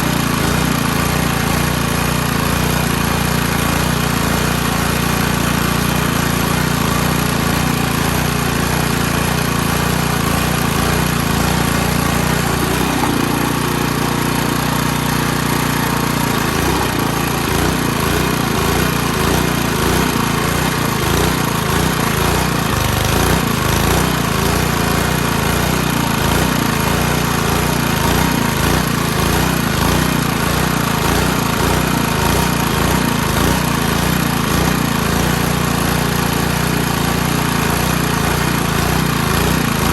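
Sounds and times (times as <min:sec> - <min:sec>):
small gasoline engine chugging: 0:00.0 - 0:39.9.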